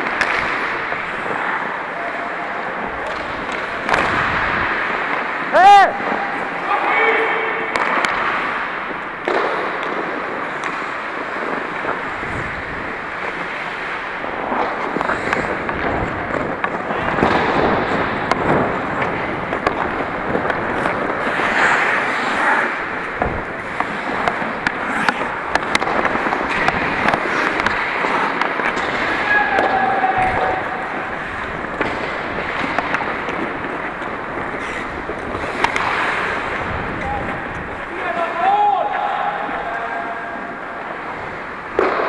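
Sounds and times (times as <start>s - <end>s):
skate blades scraping ice: 0.0s - 42.0s
sticks and puck clacking: 0.0s - 42.0s.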